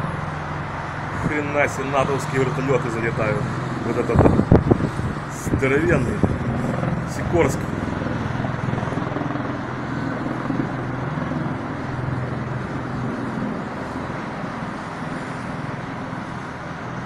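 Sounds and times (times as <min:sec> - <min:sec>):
helicopter rotor thrum: 0:00.0 - 0:17.0
road traffic hiss: 0:00.0 - 0:17.0.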